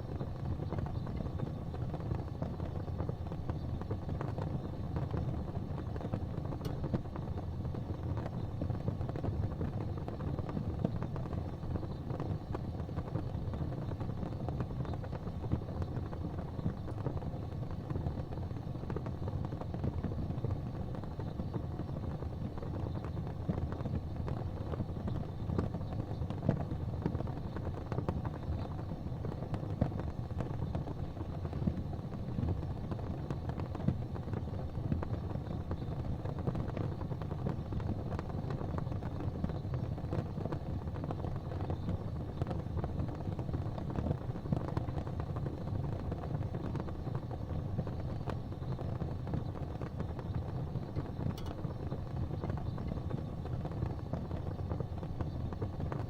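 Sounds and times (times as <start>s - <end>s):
faint crackles and pops: 0.0s - 56.0s
gas flames rumbling: 0.0s - 56.0s.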